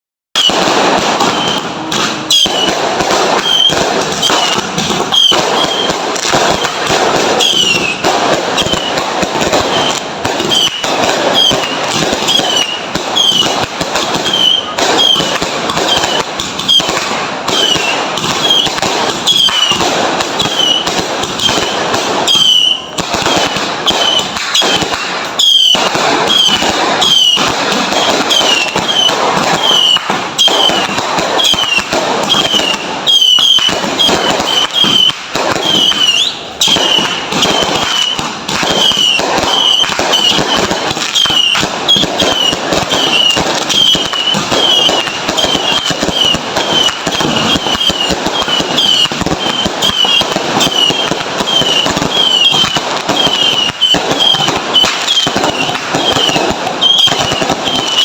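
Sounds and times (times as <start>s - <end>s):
fireworks crackling and popping: 0.3s - 58.0s
high falling whistles: 0.4s - 1.7s, 2.3s - 2.8s, 3.4s - 6.7s, 7.4s - 8.0s, 8.6s - 13.6s, 17.5s - 19.8s, 20.4s - 24.8s, 25.4s - 58.0s.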